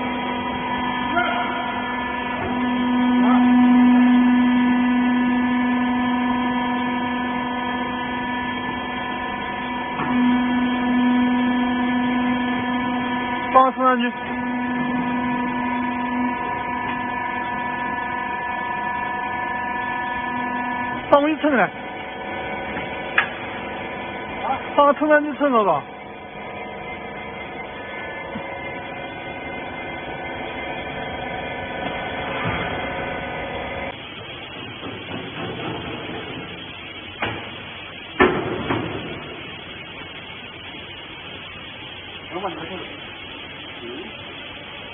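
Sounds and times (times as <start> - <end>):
hydraulic motor and pump humming: 0.0 - 44.9.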